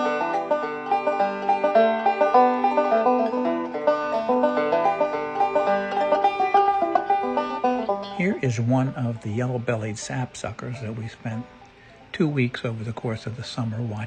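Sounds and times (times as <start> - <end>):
banjo picking: 0.0 - 14.0.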